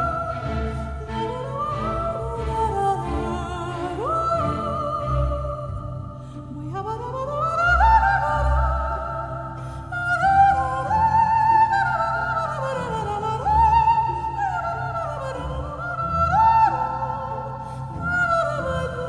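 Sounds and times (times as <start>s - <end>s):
steady low musical backing: 0.0s - 19.0s.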